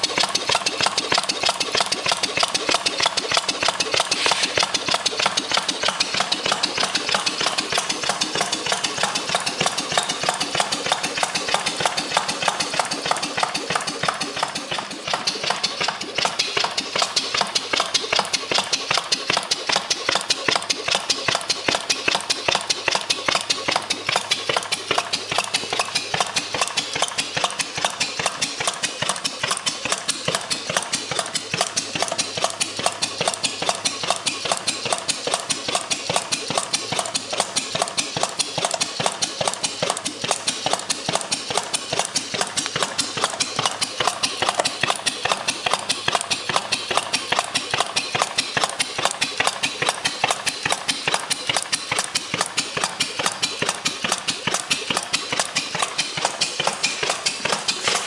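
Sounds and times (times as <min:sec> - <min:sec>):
gas engine clattering: 0:00.0 - 0:58.0.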